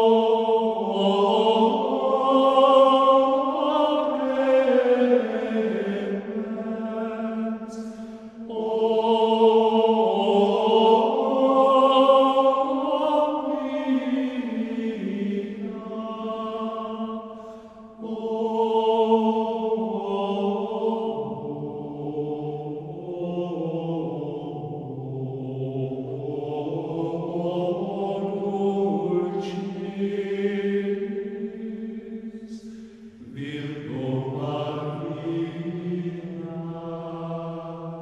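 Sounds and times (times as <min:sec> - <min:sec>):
choir chanting sustained notes: 0:00.0 - 0:38.0.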